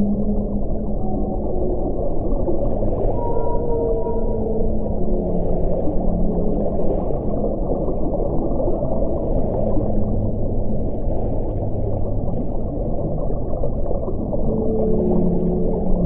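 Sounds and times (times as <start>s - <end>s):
whale moaning: 0.0s - 8.8s, 11.8s - 16.0s
underwater rumble: 0.0s - 16.0s.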